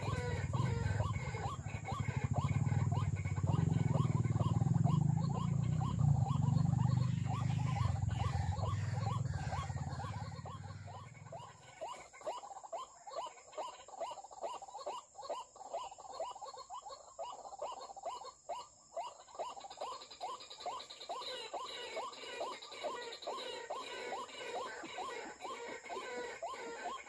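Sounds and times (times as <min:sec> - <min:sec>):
waterhen calls: 0:00.0 - 0:27.0.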